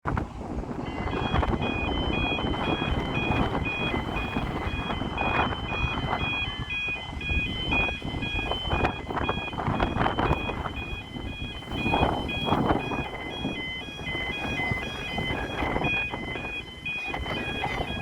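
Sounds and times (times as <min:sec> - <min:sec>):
wind rumbling on microphone: 0:00.0 - 0:18.0
two-tone yodel alarm: 0:00.7 - 0:18.0.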